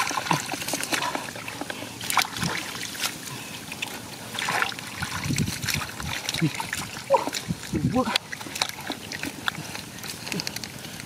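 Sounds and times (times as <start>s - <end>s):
hands splashing in muddy water: 0.0s - 10.6s.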